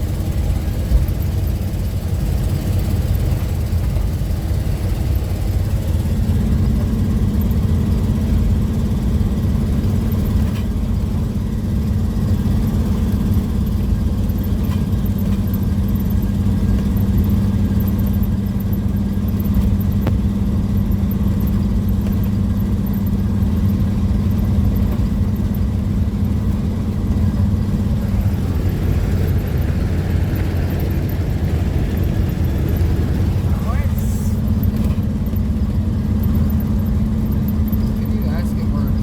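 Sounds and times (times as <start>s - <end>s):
car cabin road drone: 0.0s - 39.0s.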